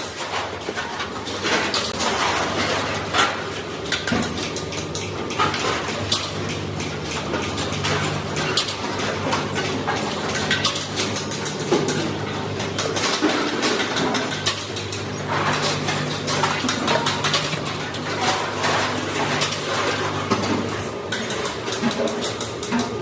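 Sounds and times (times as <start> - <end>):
steady machine hum: 0.7 - 23.0.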